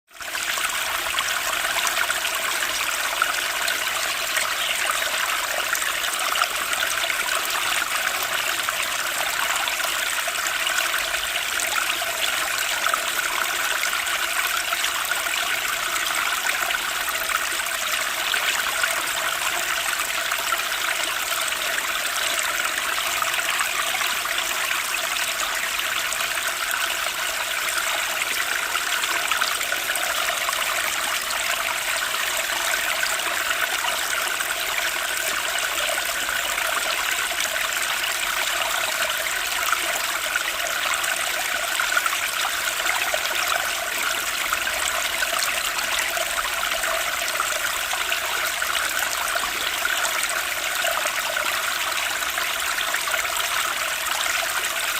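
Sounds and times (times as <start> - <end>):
stream water flowing: 0.1 - 54.9.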